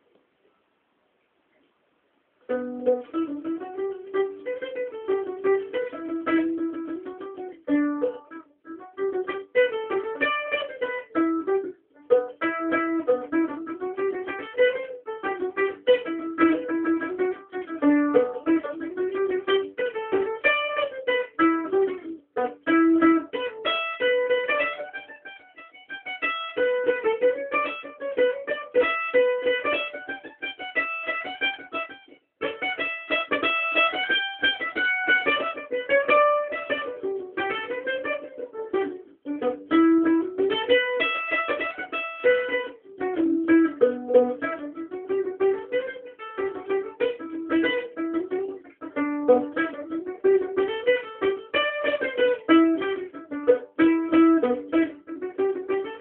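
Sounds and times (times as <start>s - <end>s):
mandolin picking quick melody: 2.4s - 56.0s.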